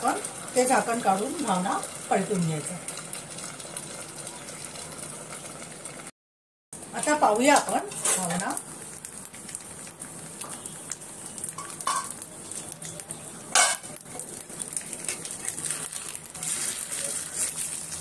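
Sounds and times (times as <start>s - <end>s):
batter sizzling on a griddle: 0.0s - 6.1s, 6.8s - 18.0s.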